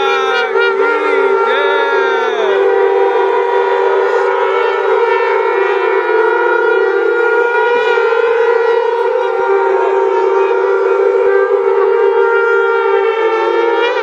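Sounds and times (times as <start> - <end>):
conch shells blaring: 0.0 - 14.0.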